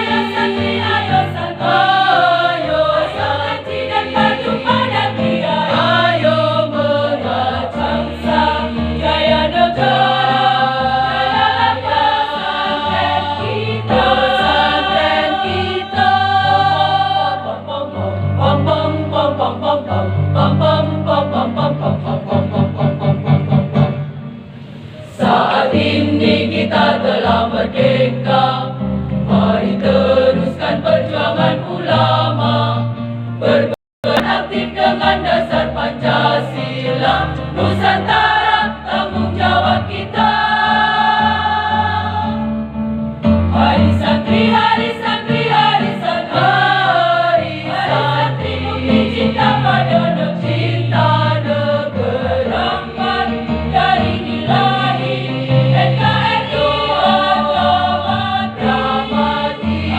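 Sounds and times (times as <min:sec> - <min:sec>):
women's choir singing a march: 0:00.0 - 0:23.0, 0:25.1 - 0:42.6, 0:43.5 - 0:59.9
instrumental accompaniment: 0:00.0 - 0:59.9.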